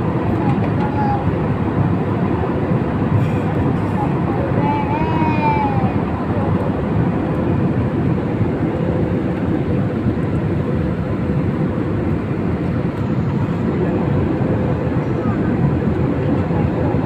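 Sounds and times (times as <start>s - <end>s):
airliner cabin engine roar: 0.0s - 17.0s.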